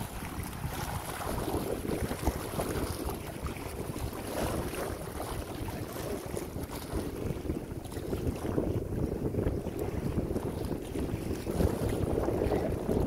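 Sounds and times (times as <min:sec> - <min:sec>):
waves lapping at the shore: 0:00.0 - 0:13.0
wind rumbling on microphone: 0:00.0 - 0:13.0.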